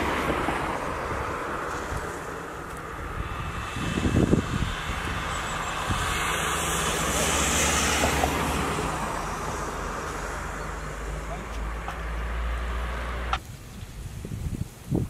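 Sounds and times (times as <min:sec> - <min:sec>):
wind buffeting microphone: 0:00.0 - 0:12.3, 0:13.2 - 0:15.0
strong wind gusting: 0:00.0 - 0:15.0.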